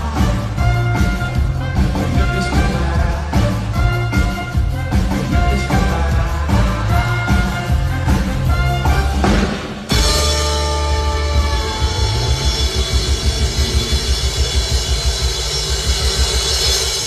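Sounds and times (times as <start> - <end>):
pop-rock band playing: 0.0 - 17.0.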